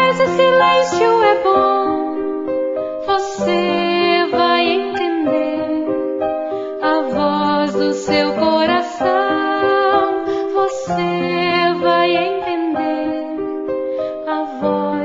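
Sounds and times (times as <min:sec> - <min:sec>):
gentle song with singing: 0:00.0 - 0:15.0.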